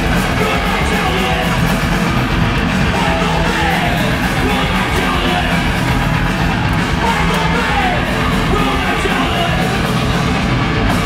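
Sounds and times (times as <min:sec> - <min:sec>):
shouted vocals: 0:00.0 - 0:01.8, 0:02.8 - 0:11.0
live rock band playing: 0:00.0 - 0:11.0.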